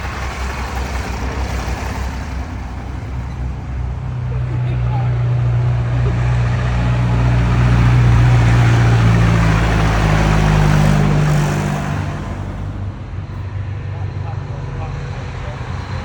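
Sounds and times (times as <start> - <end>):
tractor engine passing by: 0.0 - 16.0.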